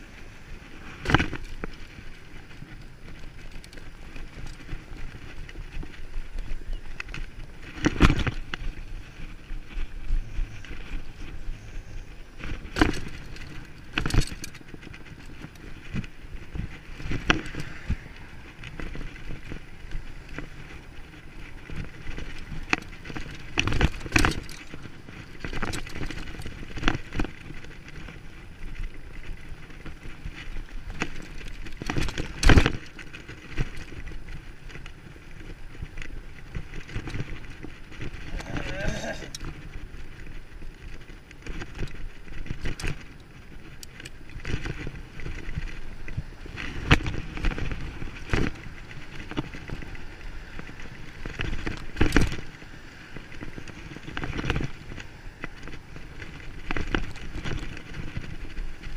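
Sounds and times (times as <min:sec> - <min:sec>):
bicycle knocking on bumps: 0:00.0 - 0:58.9
bicycle rolling and rattling: 0:00.0 - 0:58.9.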